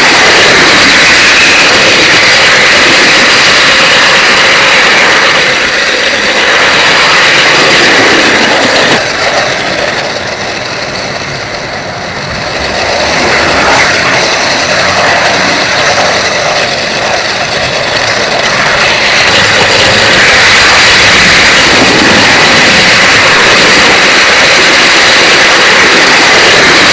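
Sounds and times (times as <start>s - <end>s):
model train running on rails: 0.0s - 26.9s.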